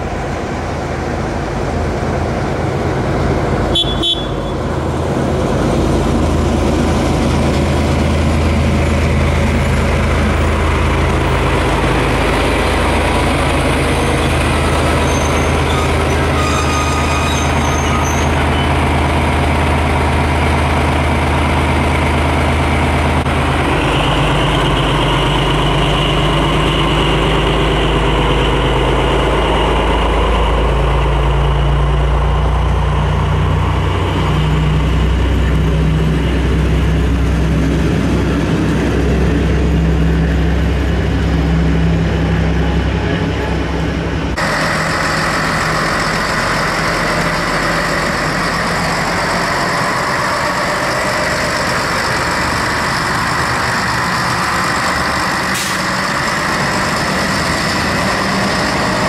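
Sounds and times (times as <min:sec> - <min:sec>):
diesel locomotive engine idling: 0:00.0 - 0:59.0
diesel railcar engine humming: 0:00.0 - 0:59.0.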